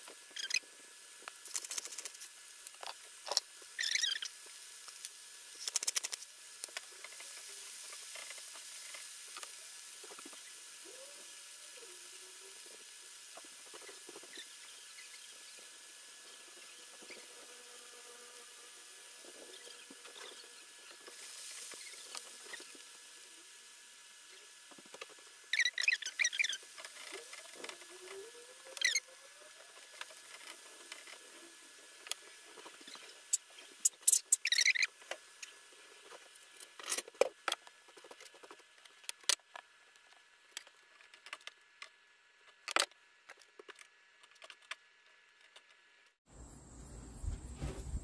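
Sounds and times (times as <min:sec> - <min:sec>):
faint sizzle: 0:00.0 - 0:39.1
frying oil crackling and popping: 0:00.0 - 0:44.6.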